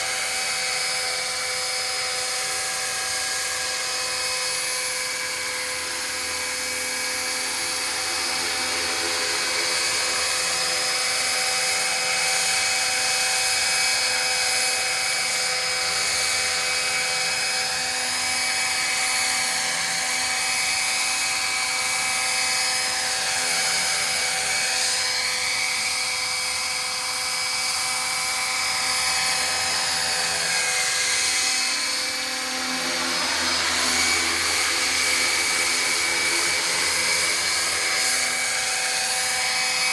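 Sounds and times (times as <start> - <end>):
rc helicopter high whine: 0.0 - 39.9.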